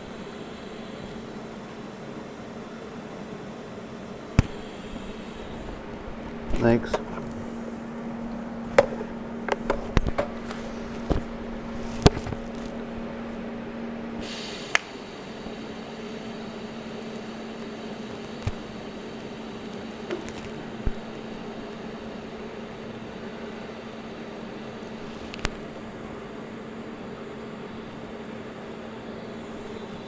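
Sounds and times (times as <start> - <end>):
faint high whine: 0.0 - 30.0
steady hum: 0.0 - 30.0.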